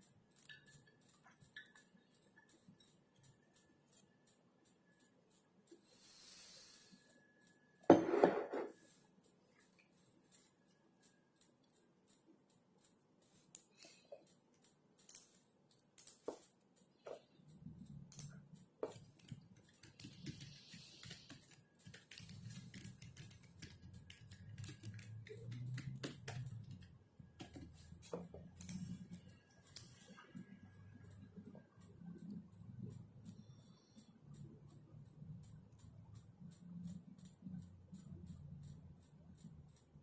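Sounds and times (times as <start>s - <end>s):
typing on computer keyboard: 0.0s - 7.9s, 8.7s - 40.0s.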